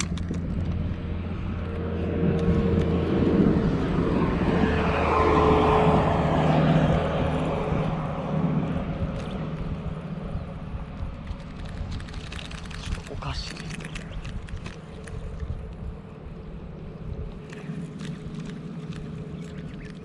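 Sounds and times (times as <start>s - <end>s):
propeller aircraft passing overhead: 0.0s - 20.0s.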